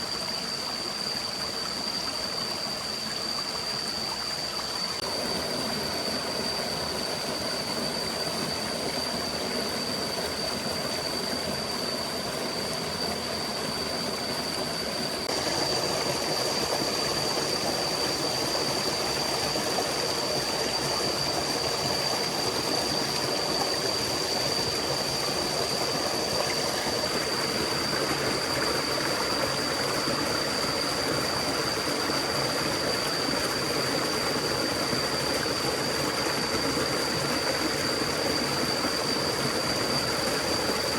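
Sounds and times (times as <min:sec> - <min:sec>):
forest stream rushing: 0:00.0 - 0:40.9.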